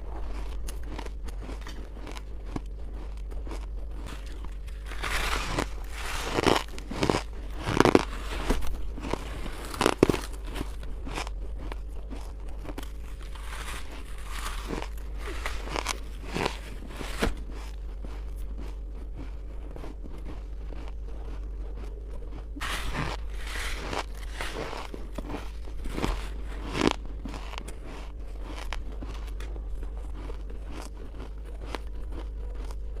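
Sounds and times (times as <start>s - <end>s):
ice crunching while chewed: 0.0s - 33.0s.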